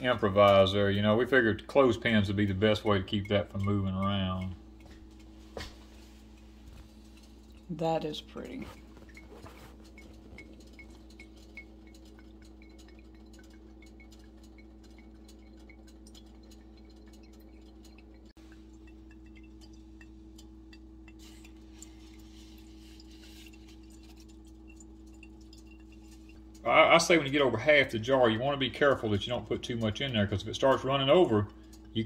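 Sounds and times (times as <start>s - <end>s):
low hum: 0.0s - 30.7s
liquid dripping into a jar: 0.0s - 32.0s.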